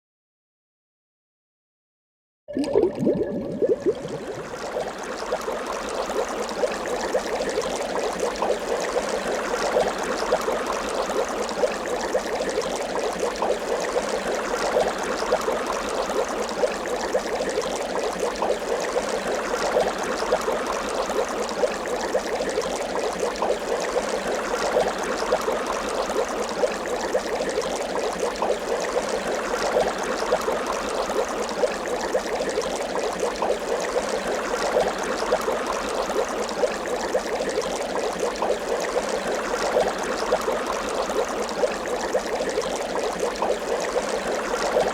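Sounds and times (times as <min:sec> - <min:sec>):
water bubbling and gurgling: 0:02.5 - 0:44.9.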